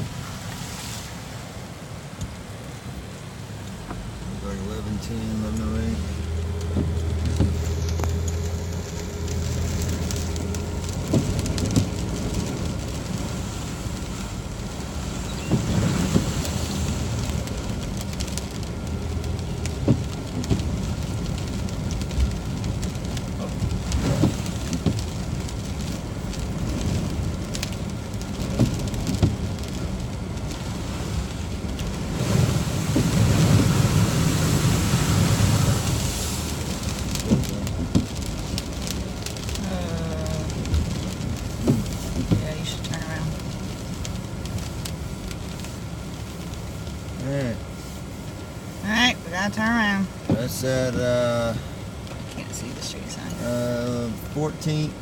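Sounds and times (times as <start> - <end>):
engine and road hum: 0.0 - 55.0
light crackling: 3.6 - 55.0.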